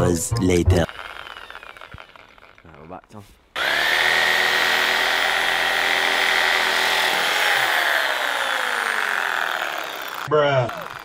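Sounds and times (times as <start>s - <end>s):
electric saw whining: 0.8s - 11.0s.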